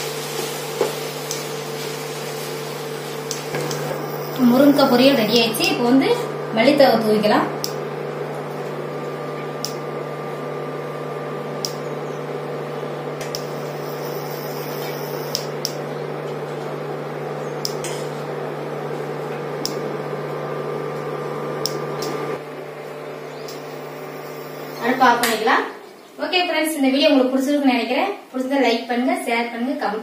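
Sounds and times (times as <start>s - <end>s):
cooktop electrical hum with fan: 0.0s - 30.0s.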